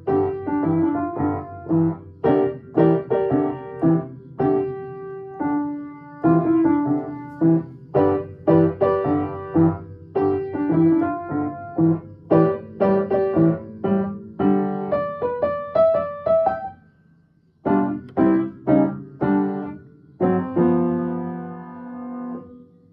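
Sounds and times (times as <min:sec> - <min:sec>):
blues piano playing: 0:00.0 - 0:16.8, 0:17.6 - 0:22.6.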